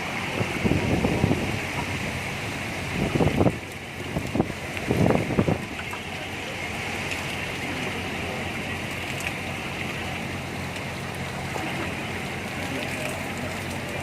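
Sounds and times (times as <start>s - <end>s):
boat engine humming: 0.0s - 14.0s
rain falling on a boat: 0.0s - 14.0s.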